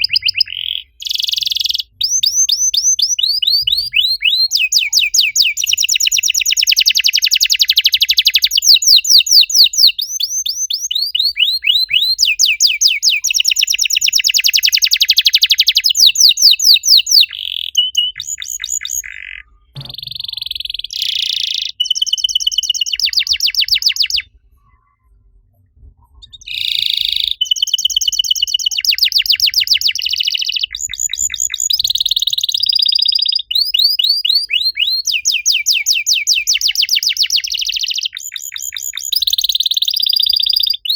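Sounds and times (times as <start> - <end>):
canary singing: 0.0 - 24.8, 26.1 - 40.9.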